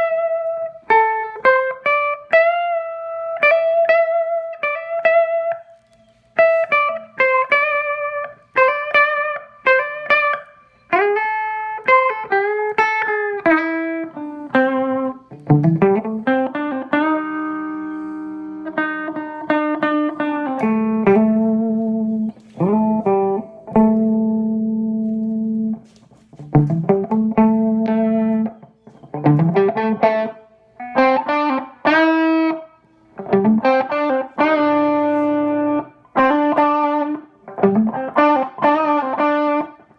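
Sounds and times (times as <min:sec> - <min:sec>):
electric guitar lead with string bends: 0:00.0 - 0:39.9.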